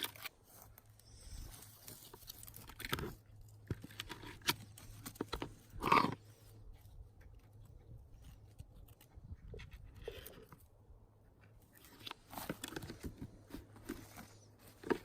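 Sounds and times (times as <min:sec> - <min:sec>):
crunching of forest floor litter: 0:00.0 - 0:09.2, 0:11.6 - 0:15.0.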